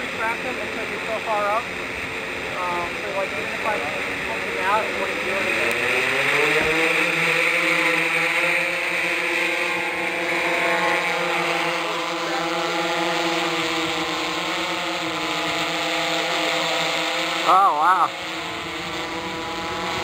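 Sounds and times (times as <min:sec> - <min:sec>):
drone propellers whirring: 0:00.0 - 0:20.0.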